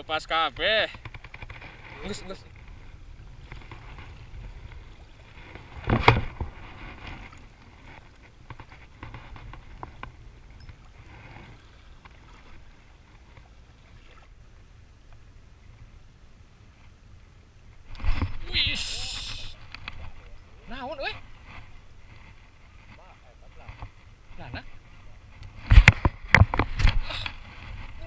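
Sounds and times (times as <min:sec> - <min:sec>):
wind rumble on microphone: 0:01.0 - 0:28.0.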